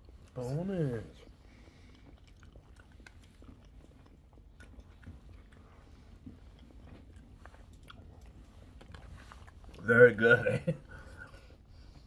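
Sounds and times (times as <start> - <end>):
chewing with mouth clicks: 0.0 - 10.2
low steady hum: 0.0 - 12.0.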